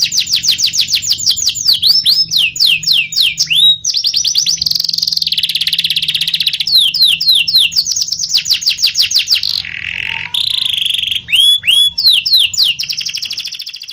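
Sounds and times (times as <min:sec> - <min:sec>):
canary singing: 0:00.0 - 0:13.9.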